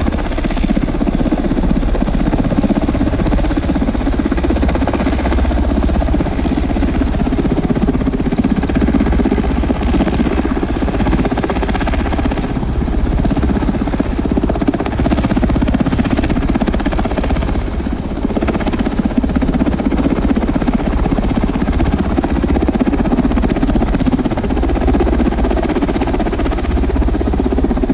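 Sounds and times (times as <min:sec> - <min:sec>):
helicopter rotor and engine: 0:00.0 - 0:27.9.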